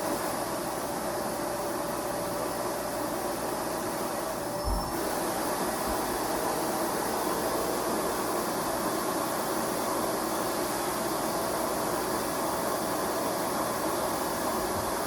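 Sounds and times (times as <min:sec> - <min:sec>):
canister vacuum running: 0:00.0 - 0:15.0.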